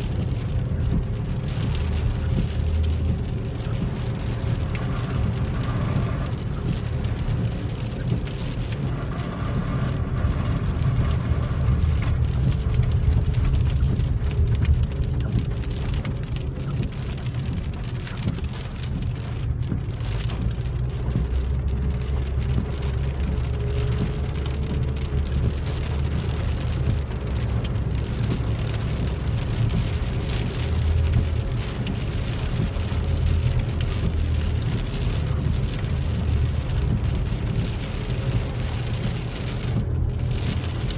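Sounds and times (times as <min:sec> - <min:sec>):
engine and tyre rumble: 0:00.0 - 0:40.9
rain hissing on car: 0:00.0 - 0:40.9.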